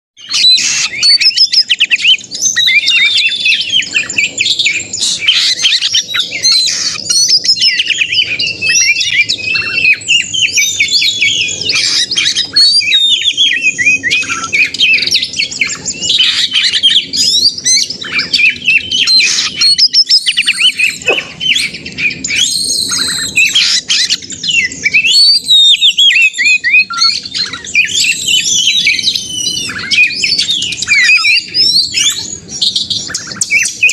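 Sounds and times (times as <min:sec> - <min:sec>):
magpie-robin singing: 0:00.2 - 0:33.9.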